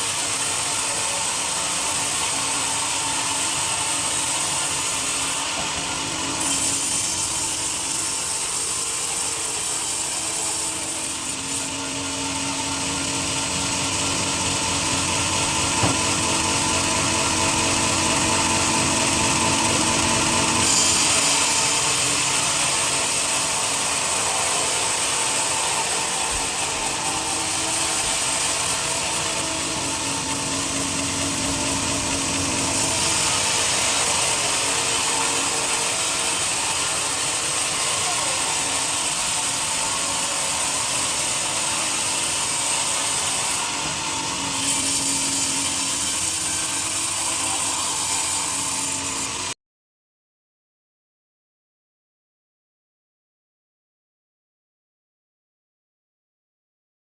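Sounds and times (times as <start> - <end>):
sawmill saw cutting log: 0.0 - 49.6.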